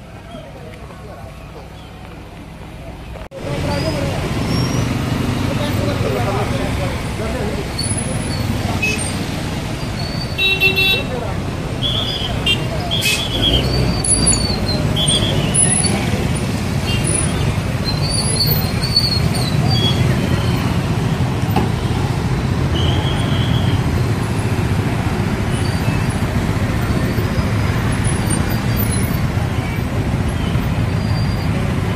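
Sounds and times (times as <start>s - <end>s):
slow road traffic: 0.0s - 31.9s.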